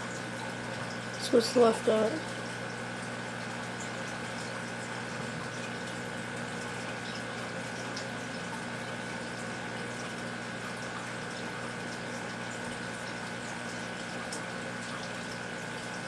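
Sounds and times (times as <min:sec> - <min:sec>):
aquarium filter pump water rush: 0:00.0 - 0:16.0.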